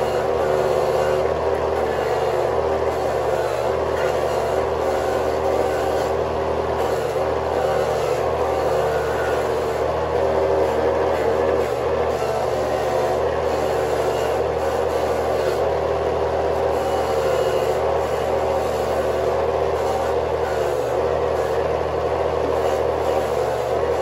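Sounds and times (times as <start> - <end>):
motorized grater humming: 0.0 - 24.0.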